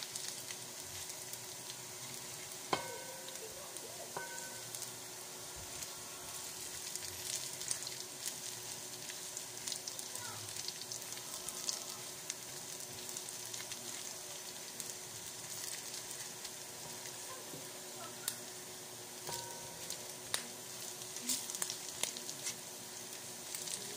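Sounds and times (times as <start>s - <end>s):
garlic sizzling in hot oil: 0.0s - 23.9s.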